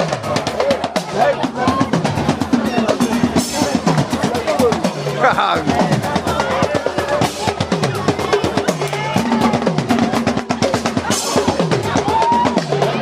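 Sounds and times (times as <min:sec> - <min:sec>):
drumming group playing: 0:00.0 - 0:13.0.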